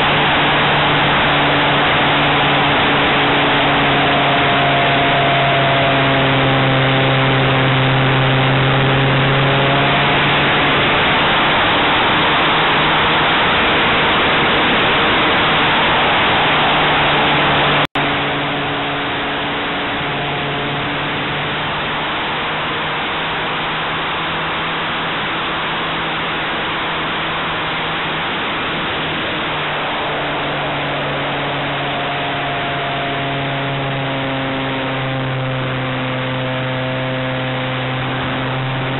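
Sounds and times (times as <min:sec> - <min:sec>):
model airplane engine running: 0:00.0 - 0:38.9
wind rush: 0:00.0 - 0:38.9.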